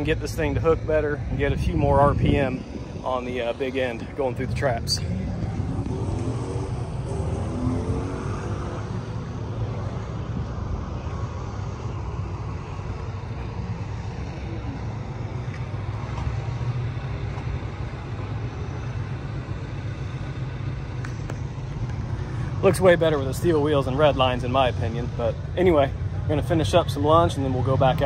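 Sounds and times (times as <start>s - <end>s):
low background rumble: 0.0s - 28.0s.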